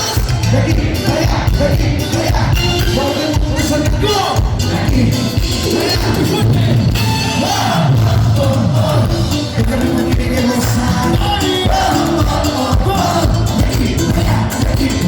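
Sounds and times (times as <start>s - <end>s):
live cumbia band playing: 0.0s - 15.0s.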